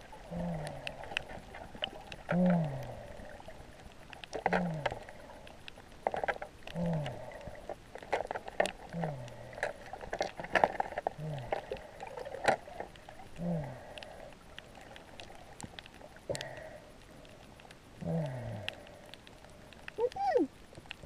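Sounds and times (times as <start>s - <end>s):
snorkel breathing: 0.2s - 15.4s, 16.1s - 19.9s.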